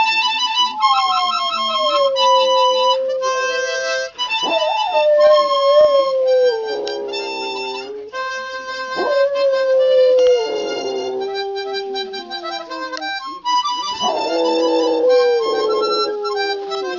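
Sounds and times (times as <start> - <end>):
harmonica playing chords: 0.0 - 16.9
dog howling: 0.8 - 3.8, 4.4 - 16.9.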